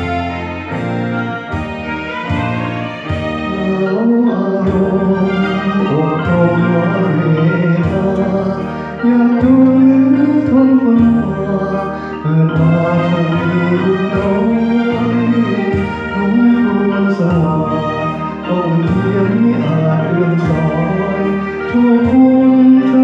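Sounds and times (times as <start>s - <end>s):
karaoke backing track: 0.0s - 23.0s
man singing into microphone: 2.3s - 23.0s.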